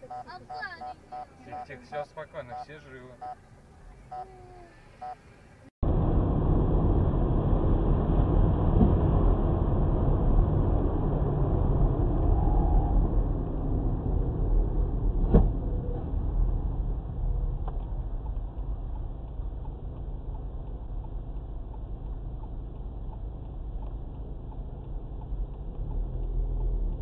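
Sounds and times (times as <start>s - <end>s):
car engine rumble and road noise: 0.0s - 27.0s.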